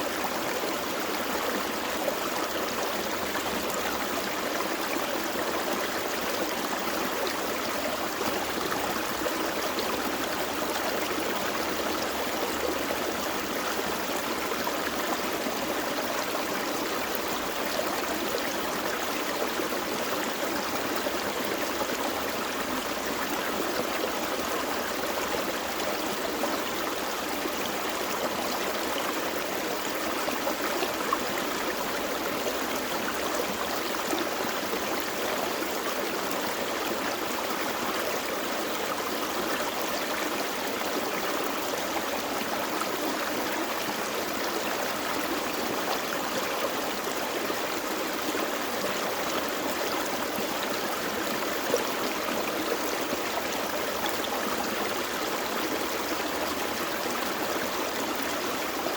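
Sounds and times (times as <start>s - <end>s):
stream babbling over stones: 0.0s - 58.9s.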